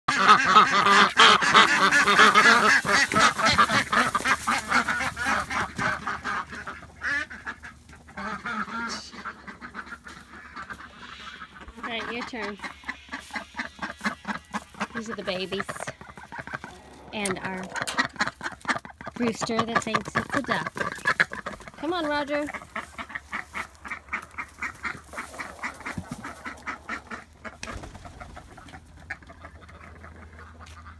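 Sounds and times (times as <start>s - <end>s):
ducks quacking: 0.1s - 30.9s.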